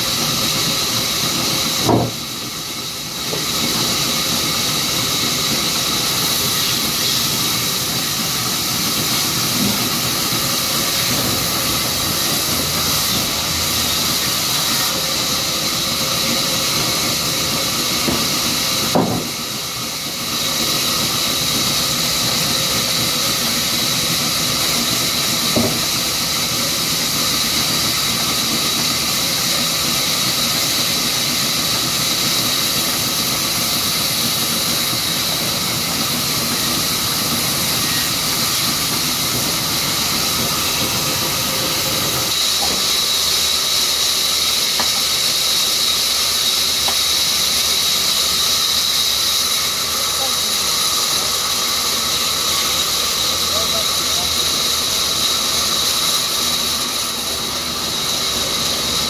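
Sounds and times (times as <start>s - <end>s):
band saw whining: 0.0s - 59.0s
blade hissing through wood: 0.0s - 59.0s.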